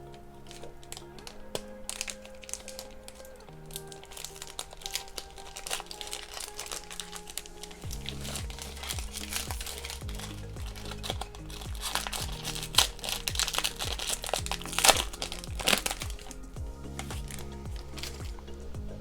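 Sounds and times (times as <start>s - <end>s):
plastic wrapper crinkling: 0.0s - 19.0s
soft background music: 0.0s - 19.0s.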